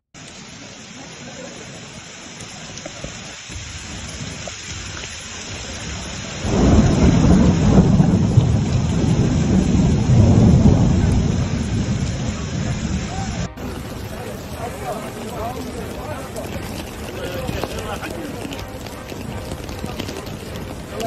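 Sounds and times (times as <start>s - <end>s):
heavy rain pouring: 0.2s - 21.0s
thunder rumbling: 1.3s - 21.0s.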